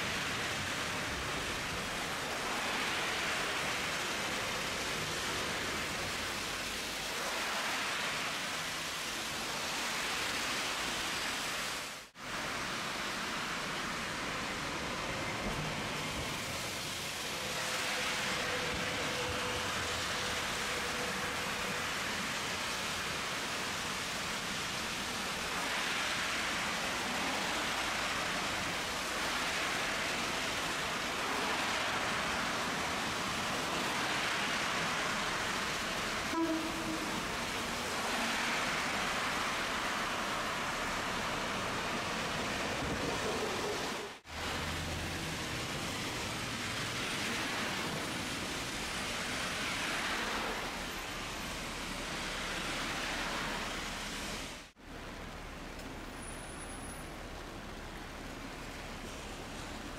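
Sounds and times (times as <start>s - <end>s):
streetcar rolling rumble: 0.0s - 59.9s.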